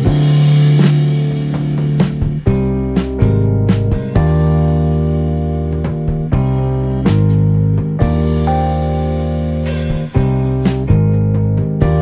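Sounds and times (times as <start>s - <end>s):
guitar: 0.0s - 12.0s.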